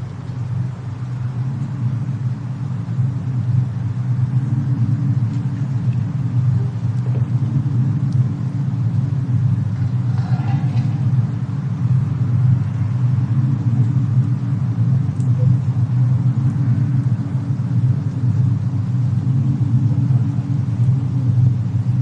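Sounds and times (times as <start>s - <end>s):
faint fire crackles: 0.0s - 22.0s
low ambient rumble: 0.0s - 22.0s.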